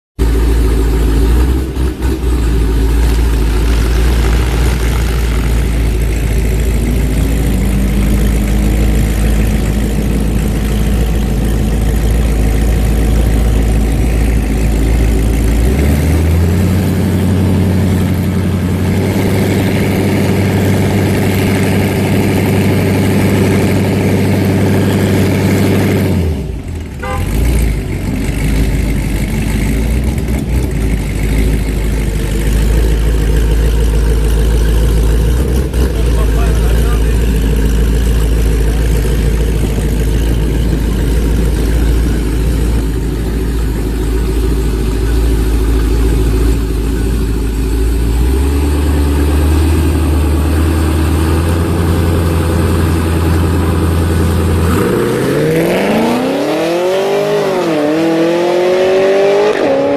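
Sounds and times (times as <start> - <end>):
car engine idling: 0.2 - 59.2
engine revving: 0.2 - 59.9.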